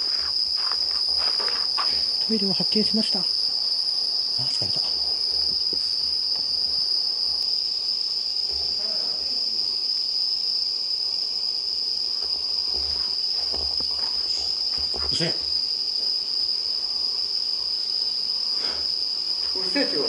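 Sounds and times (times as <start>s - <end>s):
night insects chirring: 0.0s - 20.0s.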